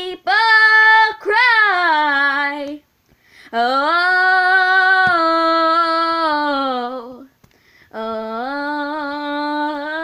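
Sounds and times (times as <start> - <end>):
girl singing a cappella: 0.0 - 10.0.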